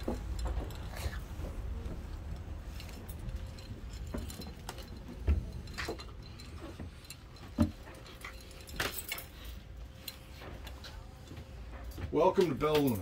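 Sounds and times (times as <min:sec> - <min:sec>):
light clicks and rattles: 0:00.0 - 0:13.0.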